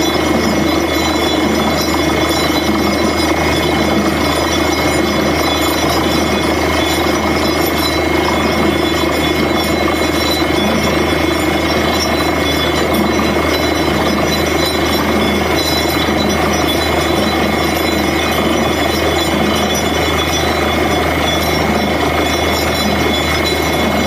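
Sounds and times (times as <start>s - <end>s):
drilling rig running: 0.0s - 24.0s
thin steady whine: 0.0s - 24.0s.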